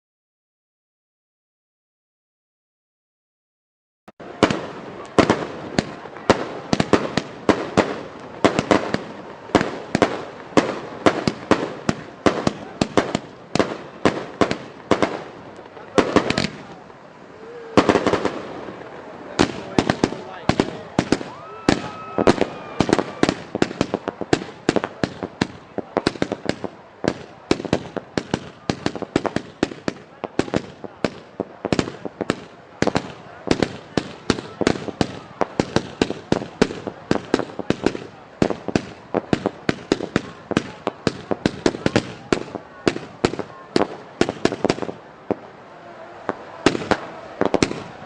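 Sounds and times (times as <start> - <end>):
fireworks banging: 4.2 - 45.5, 46.1 - 48.0
fireworks crackling: 4.2 - 48.0.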